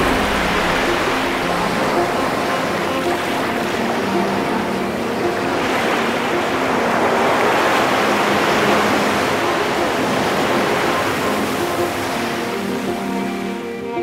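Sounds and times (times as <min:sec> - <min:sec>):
sea surf rushing: 0:00.0 - 0:14.0
soft background music: 0:00.0 - 0:14.0.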